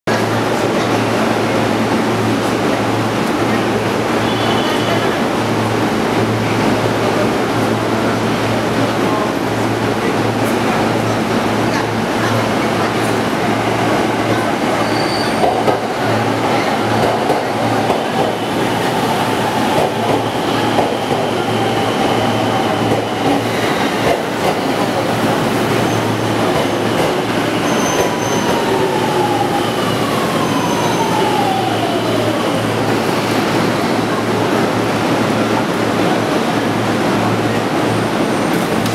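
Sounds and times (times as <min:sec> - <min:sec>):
train wheels rumbling on rail: 0:00.1 - 0:38.9.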